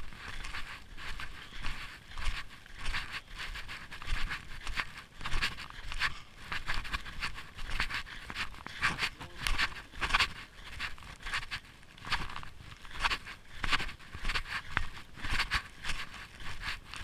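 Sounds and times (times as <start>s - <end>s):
snowshoe steps crunching in snow: 0.0s - 17.0s.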